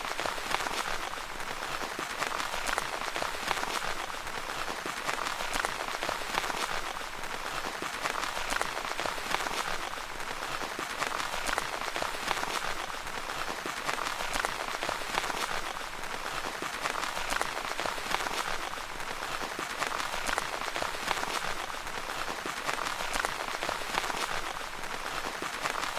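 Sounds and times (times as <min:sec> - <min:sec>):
rain pattering on tent fabric: 0:00.0 - 0:25.9.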